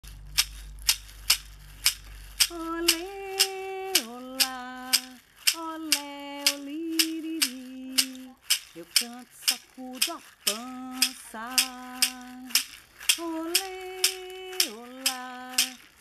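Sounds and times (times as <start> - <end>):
gourd rattles shaken: 0.0 - 16.0
woman humming a tune: 2.5 - 15.9.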